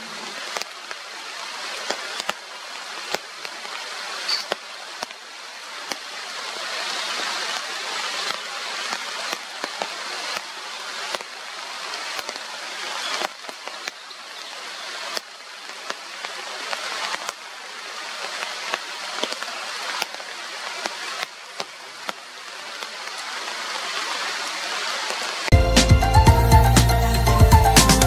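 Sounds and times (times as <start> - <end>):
rushing water: 0.0 - 25.9.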